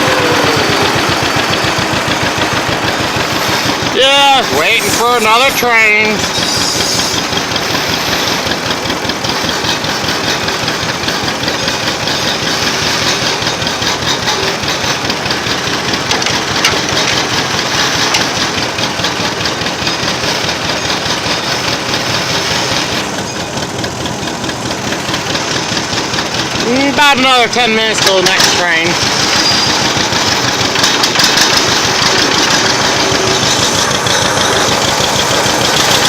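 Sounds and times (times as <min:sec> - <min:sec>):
vintage engine idling: 0:00.0 - 0:36.0.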